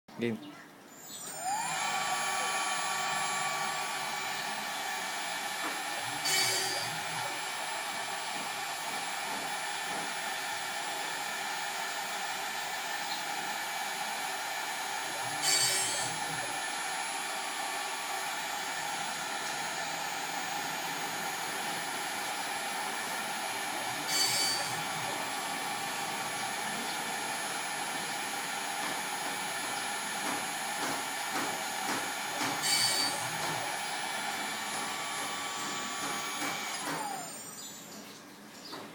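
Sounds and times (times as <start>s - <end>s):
stepper motor whining: 0.9s - 38.0s
hissy motor bursts: 1.0s - 37.8s.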